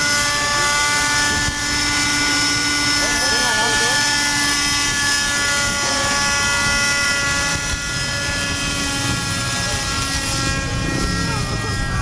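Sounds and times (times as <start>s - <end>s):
model helicopter high-pitched whine: 0.0s - 12.0s.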